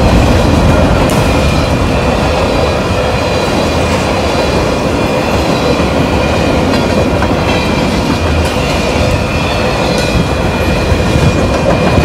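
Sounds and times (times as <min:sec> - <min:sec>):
train wheels clattering on rails: 0:00.0 - 0:12.0.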